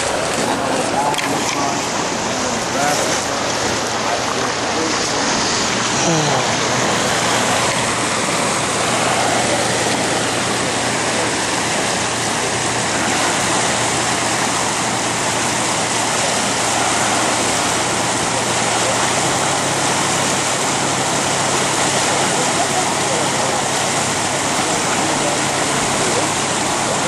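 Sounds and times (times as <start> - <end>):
boat motor hum: 0.0 - 27.0
water rushing from boat: 0.0 - 27.0.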